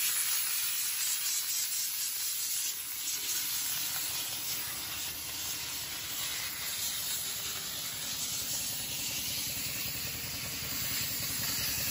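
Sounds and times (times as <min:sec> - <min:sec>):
compressed air hissing: 0:00.0 - 0:11.9.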